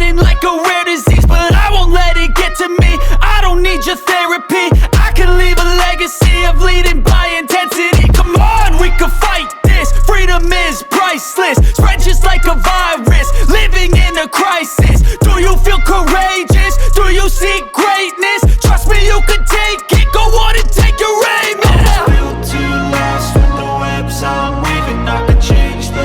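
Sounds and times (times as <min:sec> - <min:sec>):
hip hop beat with melody: 0:00.0 - 0:26.0.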